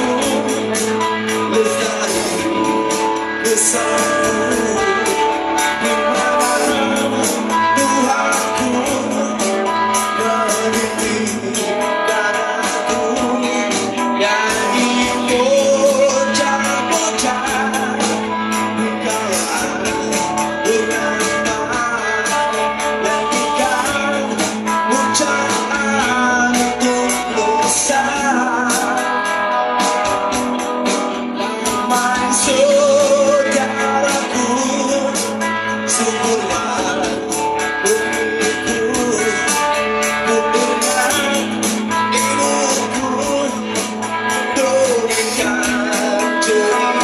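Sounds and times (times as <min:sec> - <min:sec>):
rock song: 0:00.0 - 0:47.0.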